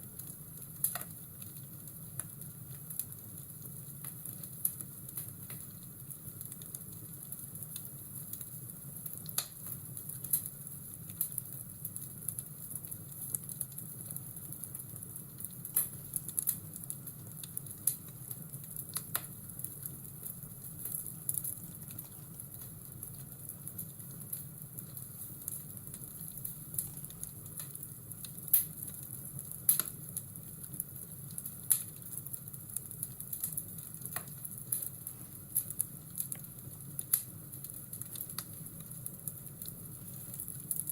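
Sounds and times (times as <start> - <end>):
fire crackling and popping: 0.0 - 40.9
steady low hiss: 0.0 - 40.9.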